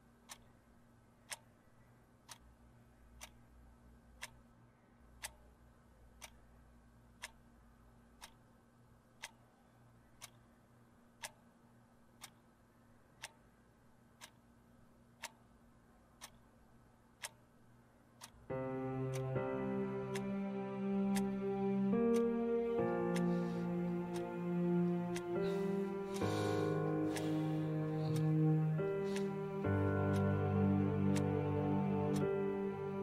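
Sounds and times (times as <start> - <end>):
clock ticking: 0.0 - 33.0
faint low hum: 0.0 - 33.0.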